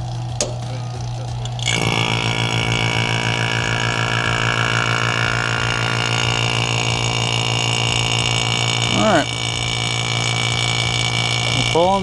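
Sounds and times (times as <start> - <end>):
vacuum pump humming and whining: 0.0 - 12.0.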